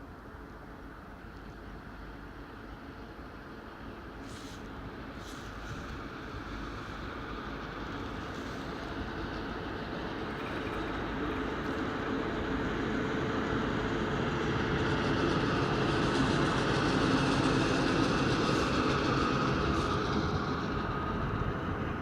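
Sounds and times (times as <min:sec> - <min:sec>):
train passing: 0:00.0 - 0:22.0.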